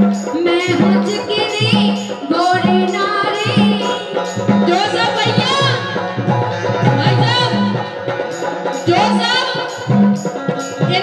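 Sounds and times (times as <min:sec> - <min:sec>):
jingling percussion: 0:00.0 - 0:11.0.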